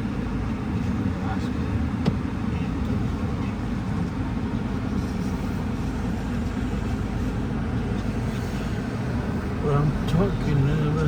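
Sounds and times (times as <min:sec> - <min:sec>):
car rumbling: 0:00.0 - 0:11.0.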